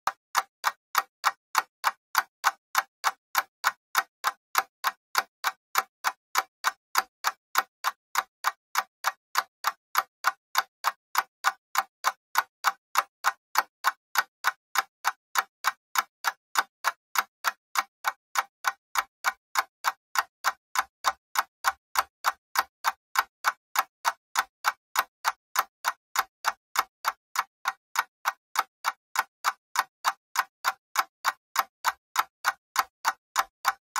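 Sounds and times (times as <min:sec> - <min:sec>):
mechanical clock ticking: 0:00.0 - 0:33.9.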